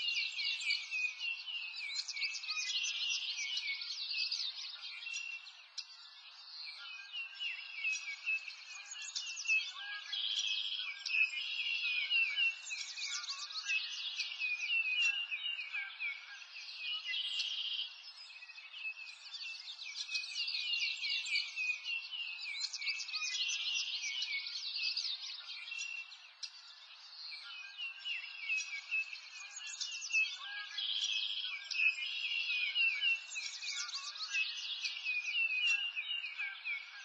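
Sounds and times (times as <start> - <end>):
songbirds chirping and trilling: 0.0 - 37.0.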